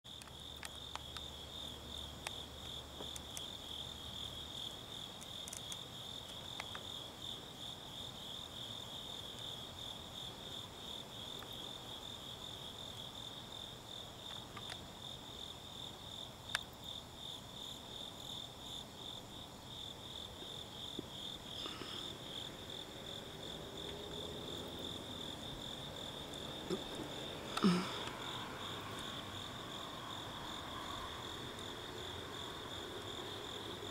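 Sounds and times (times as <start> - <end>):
crickets chirping: 0.1 - 33.9.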